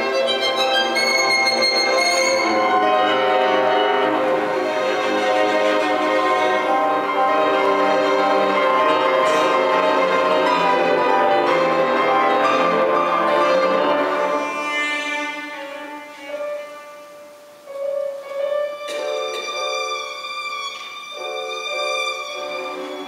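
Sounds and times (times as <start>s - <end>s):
violin cello and piano with orchestra: 0.0s - 23.0s.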